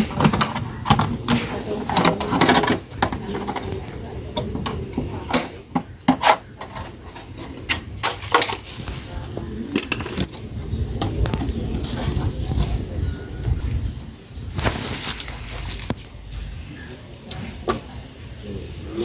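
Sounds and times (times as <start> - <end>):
faint voices: 0.0 - 19.0.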